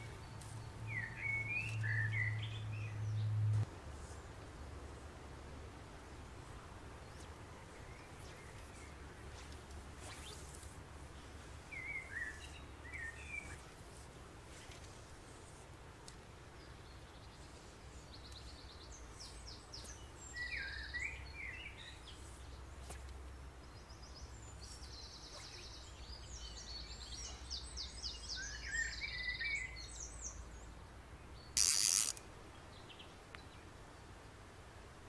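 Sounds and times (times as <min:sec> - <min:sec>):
songbirds chirping and trilling: 0:00.0 - 0:05.3, 0:06.4 - 0:34.9.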